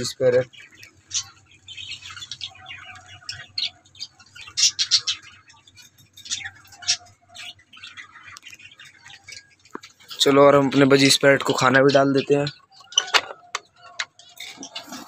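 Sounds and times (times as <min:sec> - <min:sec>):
birds chirping and chattering: 0:00.0 - 0:15.0.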